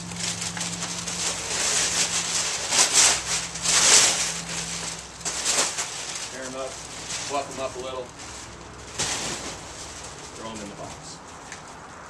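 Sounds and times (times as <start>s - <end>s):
heavy paper crumpling and tearing: 0.0s - 11.8s.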